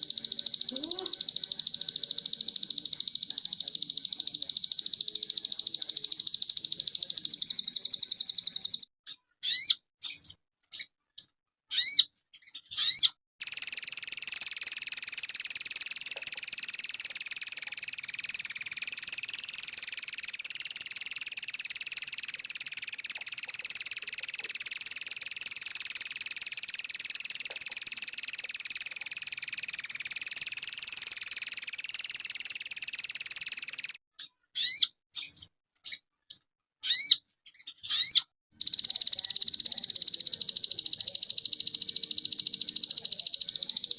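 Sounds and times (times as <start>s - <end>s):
songbird trilling and chirping: 0.0s - 43.9s.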